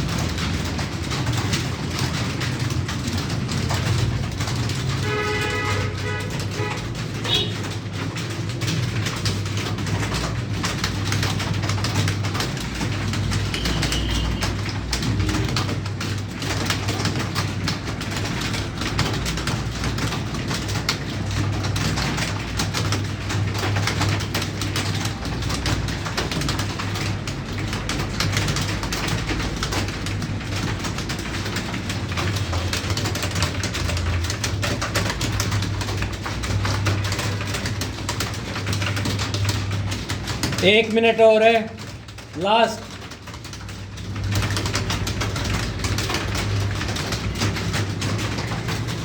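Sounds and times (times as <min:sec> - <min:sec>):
many keyboards typing: 0:00.0 - 0:49.0.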